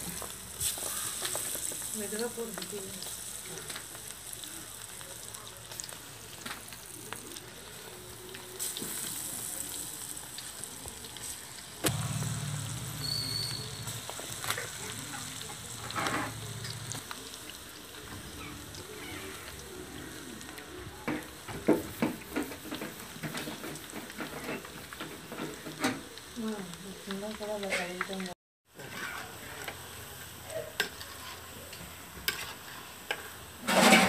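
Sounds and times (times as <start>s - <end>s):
batter deep-frying in oil: 0.0s - 34.0s.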